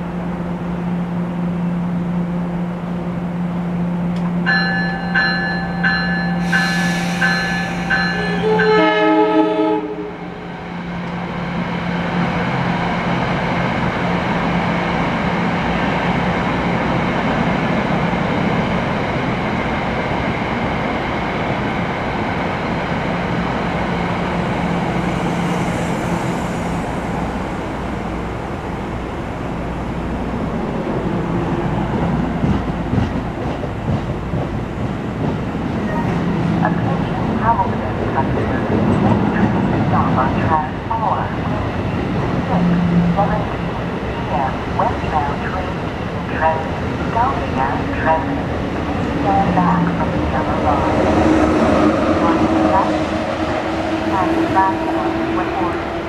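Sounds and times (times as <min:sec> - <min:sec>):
train wheels rumbling on rail: 0:04.0 - 0:56.0.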